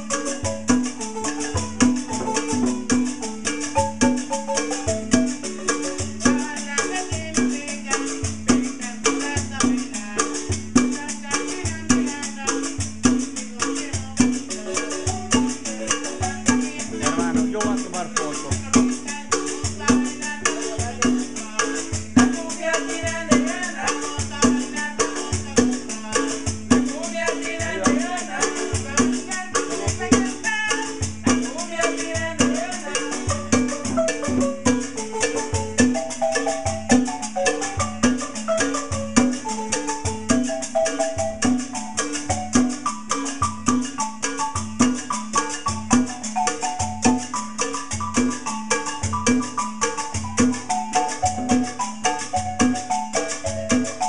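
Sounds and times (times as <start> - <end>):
conga drum: 0.0 - 54.0
marimba melody: 0.0 - 54.0
metal shaker: 0.0 - 54.0.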